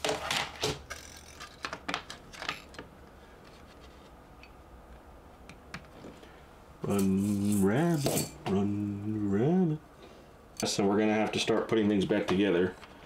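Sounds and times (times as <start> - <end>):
faint low hum: 2.4 - 13.0.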